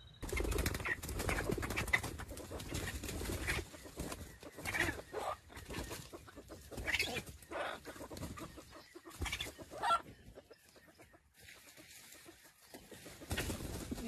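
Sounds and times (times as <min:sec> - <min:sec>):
junglefowl clucking: 0:00.7 - 0:14.0.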